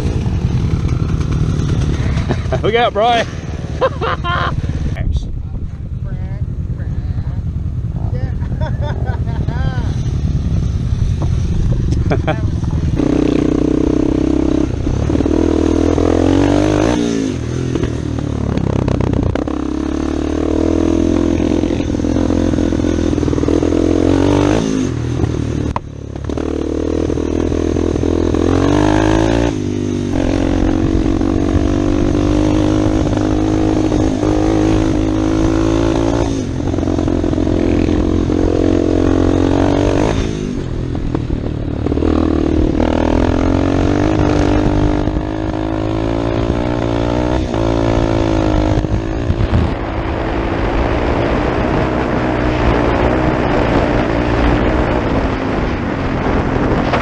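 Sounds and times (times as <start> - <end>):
atv engine running: 0.0 - 57.0
trail noise: 0.0 - 57.0
wind: 0.0 - 57.0.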